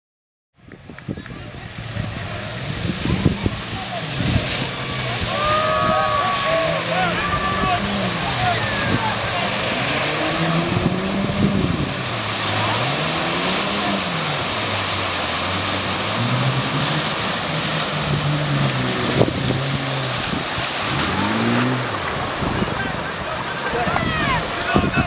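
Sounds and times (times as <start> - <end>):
water rushing and splashing: 0.6 - 25.0
vehicle engine revving: 1.3 - 24.9.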